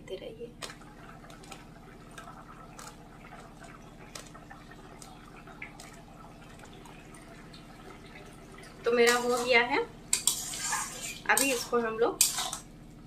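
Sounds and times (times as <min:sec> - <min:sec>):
curry boiling with popping bubbles: 0:00.0 - 0:13.0
low steady hum: 0:00.0 - 0:13.0.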